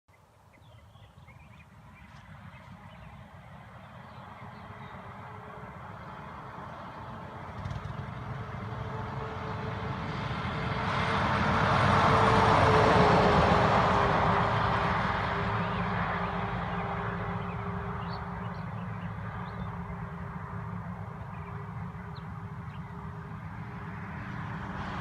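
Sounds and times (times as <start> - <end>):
truck driving past: 1.7 - 25.0.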